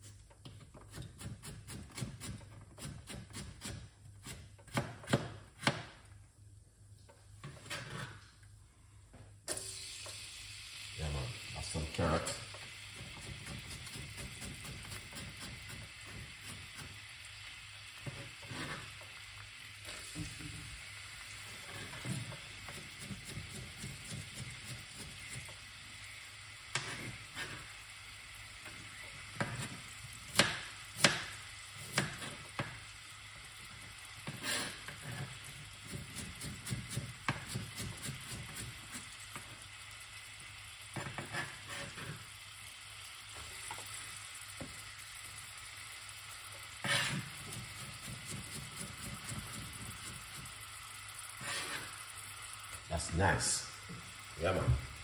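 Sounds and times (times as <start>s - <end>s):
food sizzling in oil: 9.5s - 55.0s.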